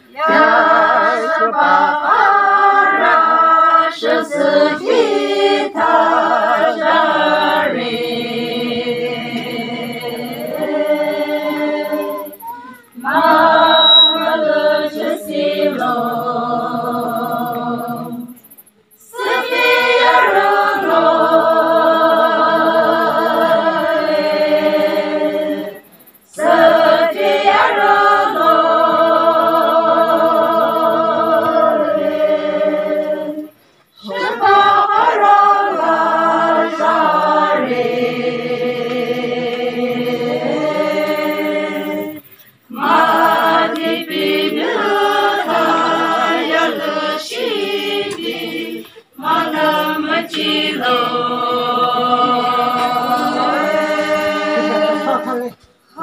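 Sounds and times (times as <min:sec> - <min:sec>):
women singing unaccompanied: 0:00.0 - 0:56.0.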